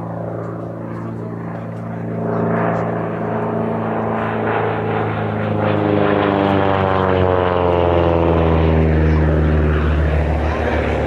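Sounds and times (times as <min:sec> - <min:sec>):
propeller aircraft passing: 0:00.0 - 0:11.0.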